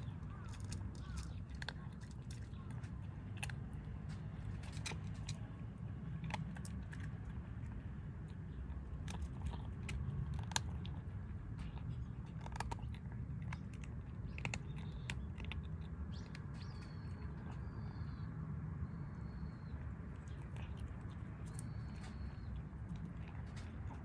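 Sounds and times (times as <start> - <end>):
kittens crunching food: 0.0 - 24.0.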